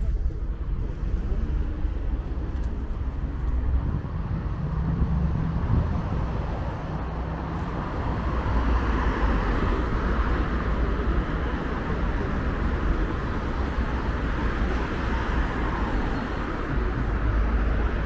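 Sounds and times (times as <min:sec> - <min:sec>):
engines rumbling: 0:00.0 - 0:18.0
tyre noise of passing vehicles: 0:00.0 - 0:18.0.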